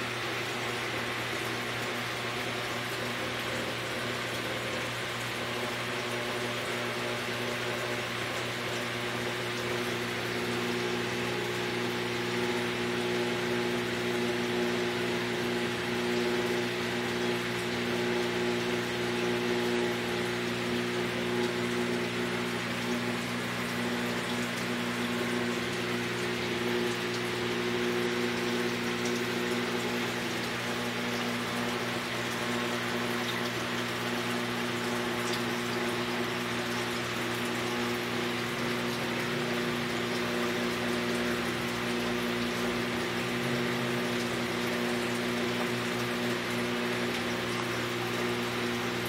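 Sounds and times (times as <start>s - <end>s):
aquarium pump motor hum: 0.0s - 49.0s.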